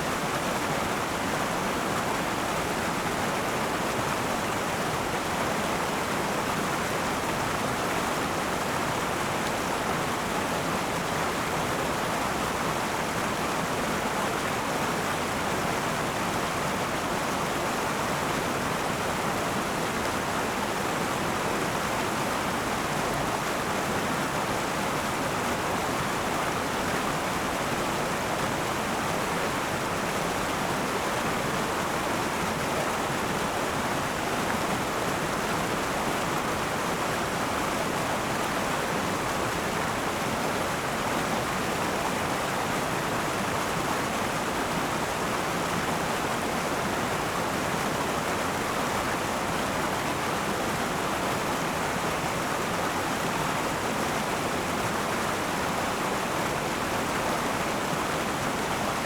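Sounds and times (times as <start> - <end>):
river water running over rocks: 0.0 - 59.0.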